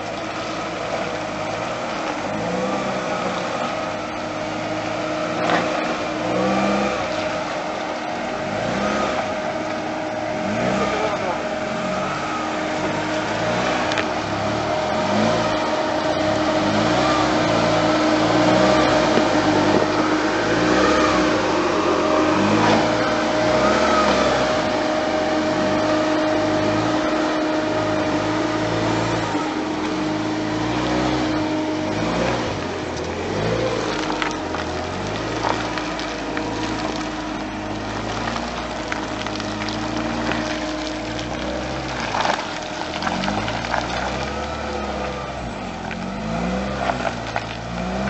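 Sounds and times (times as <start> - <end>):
steady whine: 0.0 - 46.0
car engine revving: 0.0 - 48.0.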